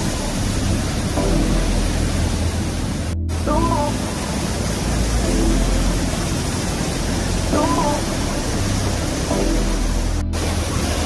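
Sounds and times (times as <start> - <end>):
whitewater rushing through gorge: 0.0 - 11.0.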